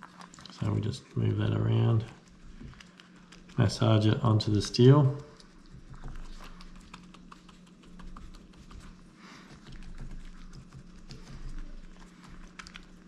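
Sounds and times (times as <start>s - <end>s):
faint low hum: 0.0s - 13.0s
fingertips rubbing latex: 0.0s - 13.0s.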